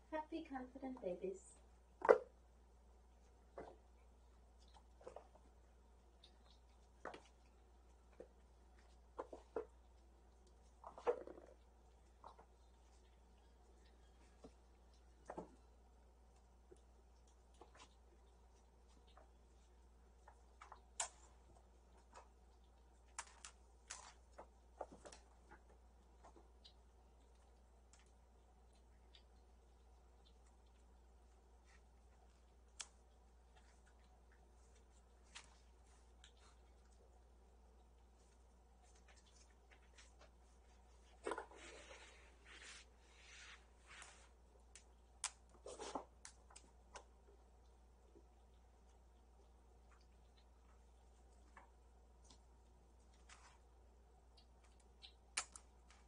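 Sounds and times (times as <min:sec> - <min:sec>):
kittens playing light clicks and taps: 0:00.9 - 0:56.0.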